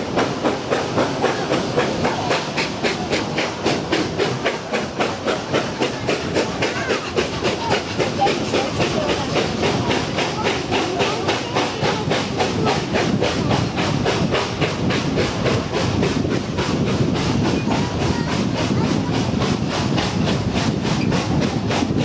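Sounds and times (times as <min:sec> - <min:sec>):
continuous steam hiss: 0:00.0 - 0:22.0
steam locomotive exhaust beats: 0:00.0 - 0:22.0.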